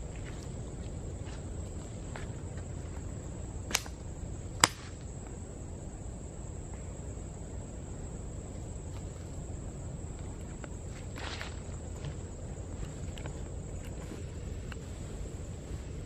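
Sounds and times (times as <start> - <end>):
crickets chirping: 0.0 - 16.0
low background rumble: 0.0 - 16.0.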